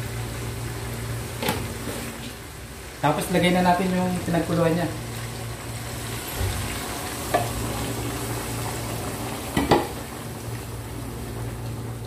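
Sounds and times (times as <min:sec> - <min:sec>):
food sizzling in hot pan: 0:00.0 - 0:12.0.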